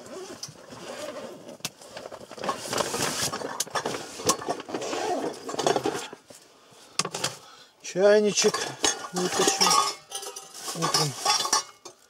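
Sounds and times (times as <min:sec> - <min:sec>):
gear rustling and scraping: 0:00.0 - 0:06.5, 0:08.2 - 0:12.0.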